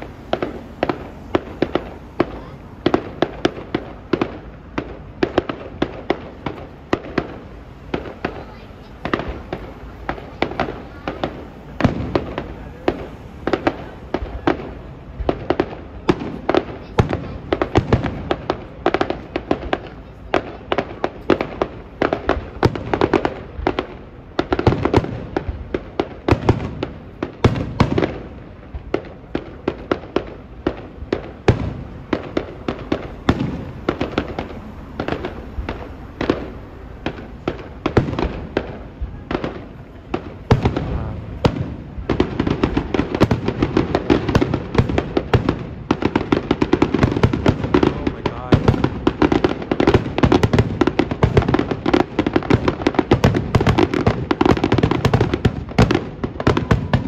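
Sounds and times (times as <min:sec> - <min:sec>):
continuous rumble: 0:00.0 - 0:57.0.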